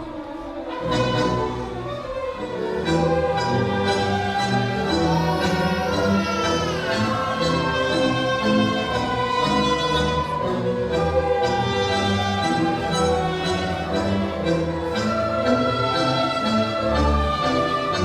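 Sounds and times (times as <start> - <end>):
orchestra playing a tango: 0.0 - 18.0.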